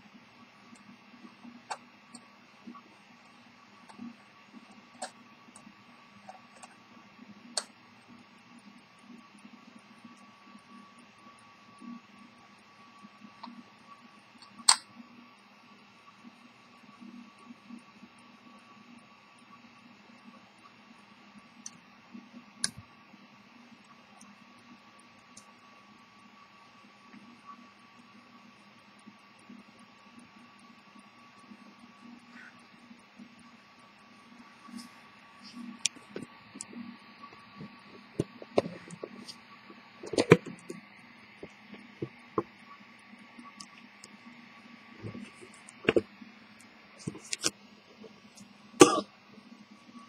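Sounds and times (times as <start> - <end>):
steady hiss: 0.0 - 50.0
steady low hum: 0.0 - 50.0.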